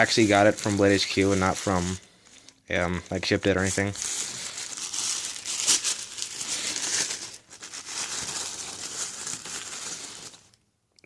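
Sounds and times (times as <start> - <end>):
packing paper crinkling: 0.0 - 10.6.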